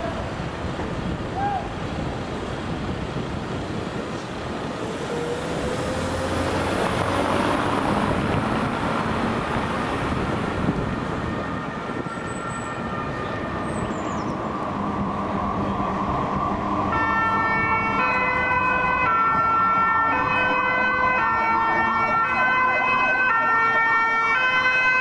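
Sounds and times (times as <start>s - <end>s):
fire engine diesel engines running: 0.0s - 25.0s
street traffic: 0.0s - 25.0s.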